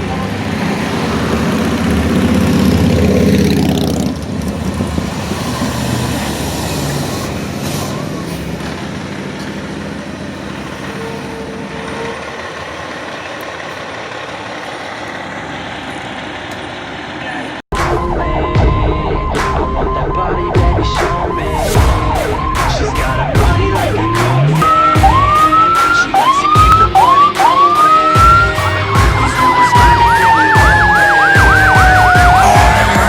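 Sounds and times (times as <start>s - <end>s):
fire truck diesel engine: 0.0s - 33.0s.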